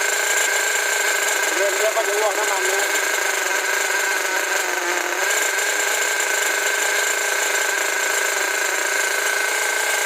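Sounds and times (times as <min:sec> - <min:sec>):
nitro engine high-pitched whine: 0:00.0 - 0:10.0.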